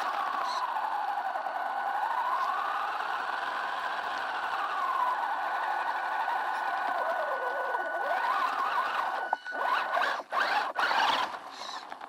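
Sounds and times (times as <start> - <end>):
electric motor and gearbox whining: 0.0 - 12.0.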